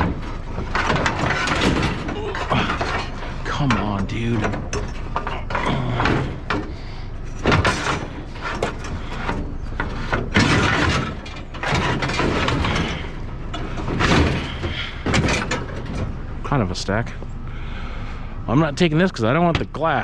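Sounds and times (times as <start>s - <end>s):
scrap knocking and clattering: 0.0s - 16.5s.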